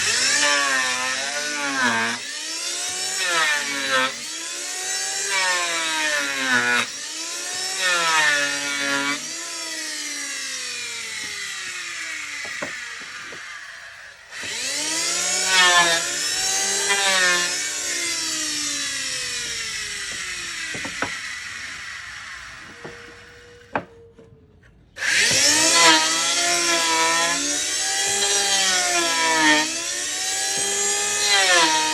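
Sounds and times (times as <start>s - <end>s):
power tool cutting wood: 0.0s - 23.9s, 25.0s - 31.9s.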